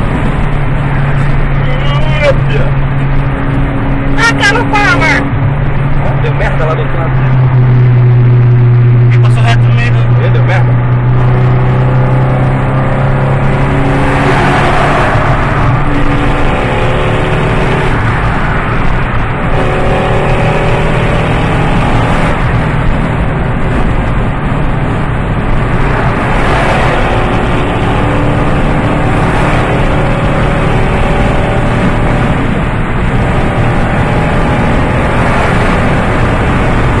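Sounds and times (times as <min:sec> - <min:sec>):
car engine and exhaust rumbling: 0:00.0 - 0:37.0.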